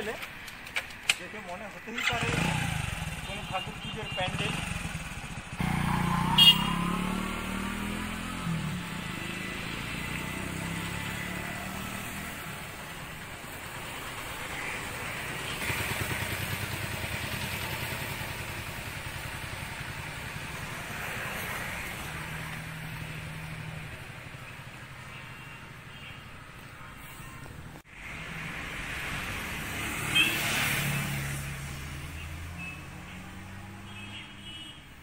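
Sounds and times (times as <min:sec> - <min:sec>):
street noise: 0:00.0 - 0:35.0
vehicle engines passing: 0:00.0 - 0:35.0.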